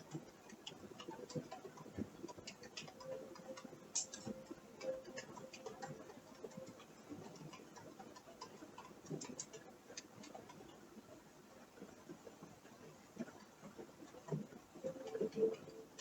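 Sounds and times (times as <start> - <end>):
faint creaking and ticking clicks: 0.0 - 16.0.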